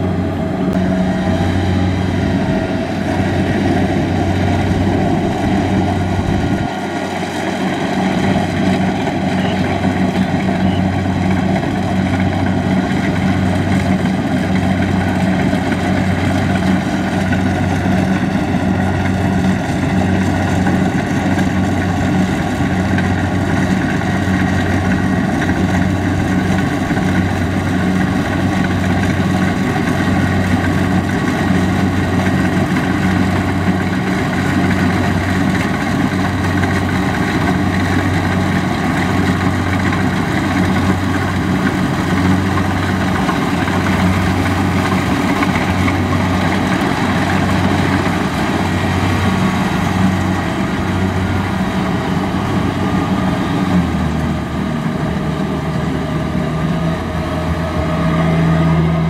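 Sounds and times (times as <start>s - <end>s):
combine harvester diesel engine droning: 0.0s - 59.0s.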